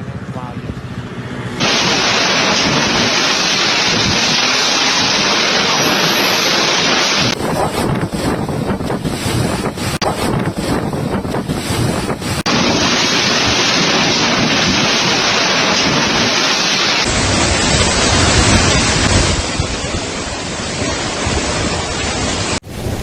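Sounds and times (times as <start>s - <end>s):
storm wind and rain: 1.6s - 23.0s.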